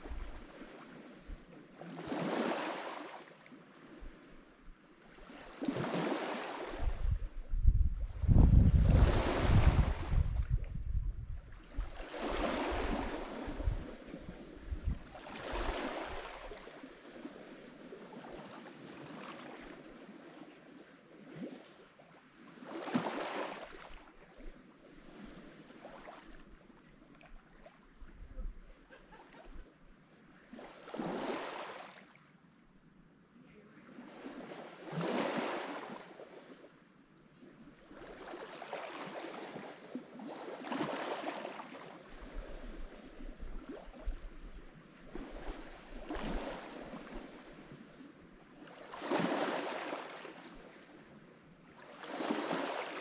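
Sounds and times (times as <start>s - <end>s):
waves breaking on shore: 0.0s - 27.9s, 30.2s - 32.3s, 33.8s - 53.0s.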